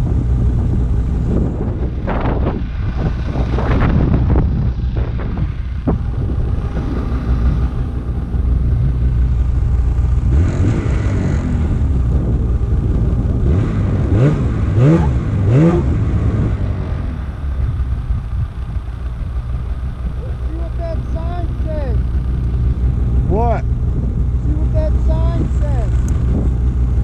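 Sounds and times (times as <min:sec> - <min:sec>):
snowmobile engine revving: 0:00.0 - 0:27.0.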